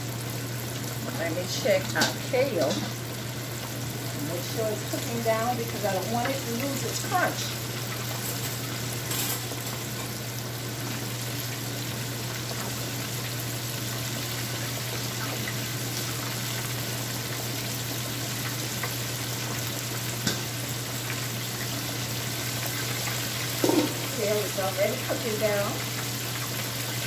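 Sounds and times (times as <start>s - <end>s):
chicken frying in hot oil: 0.0s - 27.0s.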